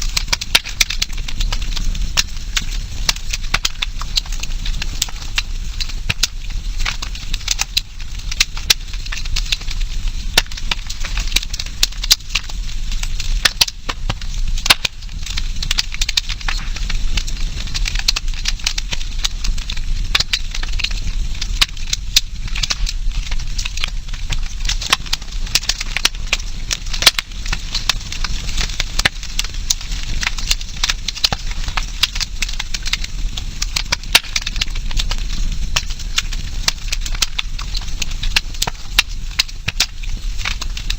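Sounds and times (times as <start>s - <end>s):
campfire crackling: 0.0s - 40.9s
hiss of flames: 0.0s - 40.9s
sharp pops and snaps of fire: 0.0s - 40.9s.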